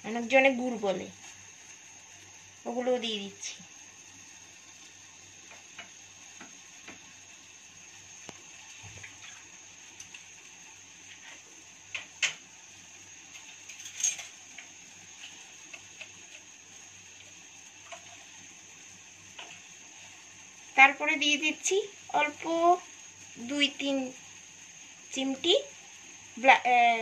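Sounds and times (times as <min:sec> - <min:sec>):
pot simmering with bubbling pops: 0:00.0 - 0:27.0.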